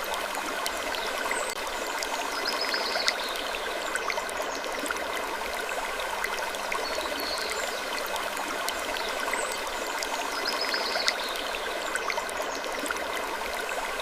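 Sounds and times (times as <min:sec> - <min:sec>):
water trickling in a stream: 0:00.0 - 0:14.0.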